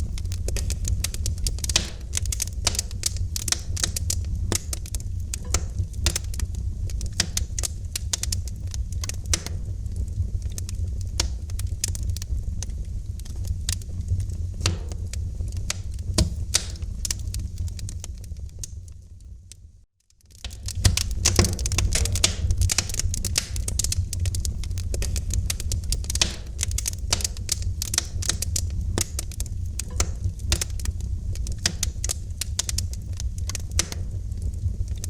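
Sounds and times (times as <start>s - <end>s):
low rumble of flames: 0.0s - 35.0s
wood fire crackling: 0.0s - 35.0s.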